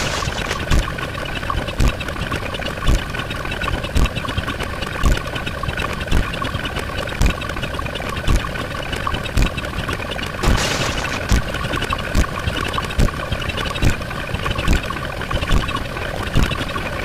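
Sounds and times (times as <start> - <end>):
machine clicking and humming: 0.0 - 17.0.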